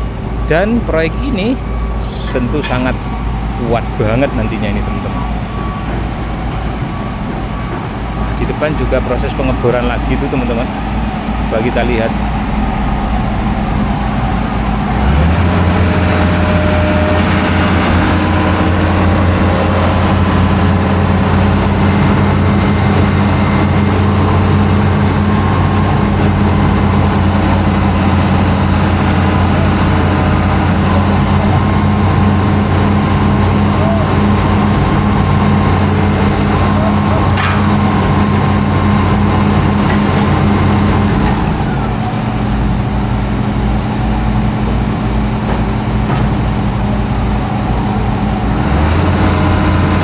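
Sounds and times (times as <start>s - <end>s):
diesel engine deep hum: 0.0s - 50.0s.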